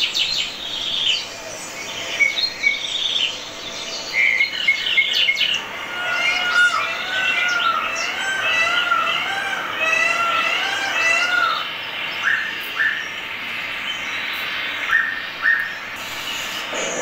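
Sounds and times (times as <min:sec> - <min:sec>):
birdsong through tv speaker: 0:00.0 - 0:17.0.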